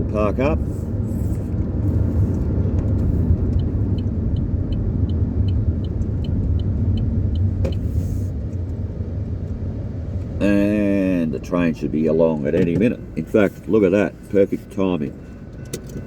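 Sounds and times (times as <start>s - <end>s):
car engine and road rumble: 0.0s - 16.0s
turn signal ticking: 1.5s - 10.5s, 11.6s - 16.0s.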